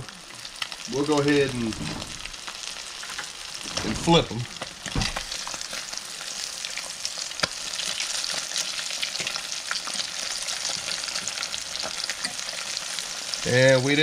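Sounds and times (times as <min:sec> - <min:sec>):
fish frying in oil: 0:00.0 - 0:14.0.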